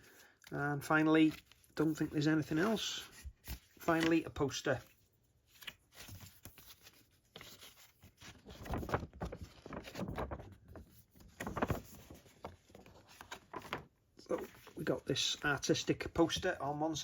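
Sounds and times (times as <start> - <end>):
paper crackling and rustling: 0.1 - 16.6.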